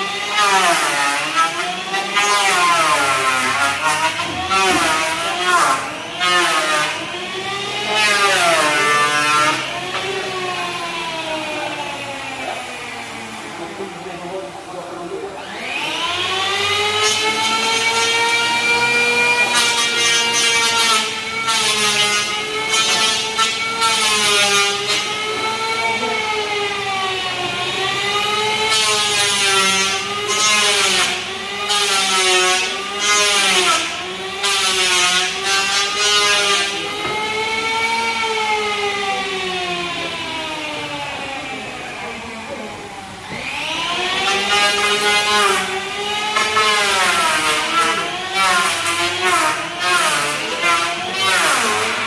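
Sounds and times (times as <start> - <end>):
power tool motor whining: 0.0 - 14.2, 15.4 - 52.0
saw cutting wood: 0.0 - 52.0.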